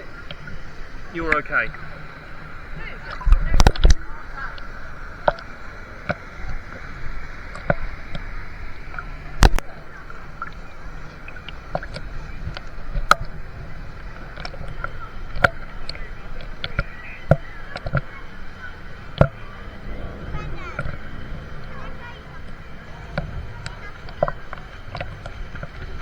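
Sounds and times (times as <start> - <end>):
moving water washing: 0.0 - 26.0
sharp water splashes: 0.0 - 26.0.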